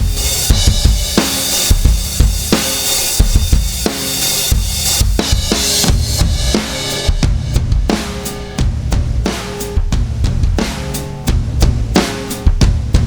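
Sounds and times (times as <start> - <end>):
drum kit playing a groove: 0.0 - 13.0.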